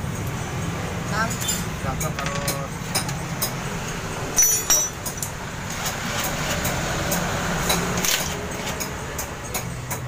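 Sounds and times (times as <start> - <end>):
hand tools clinking: 1.1 - 3.6, 4.3 - 10.0.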